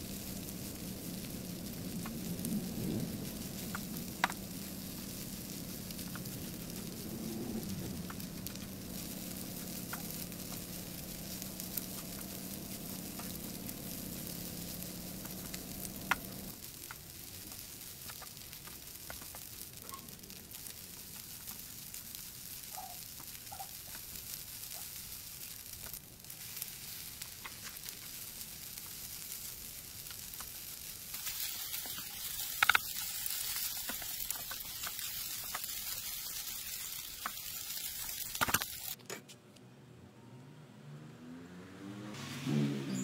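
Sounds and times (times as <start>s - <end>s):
fried rice sizzling in a pan: 0.0s - 39.0s.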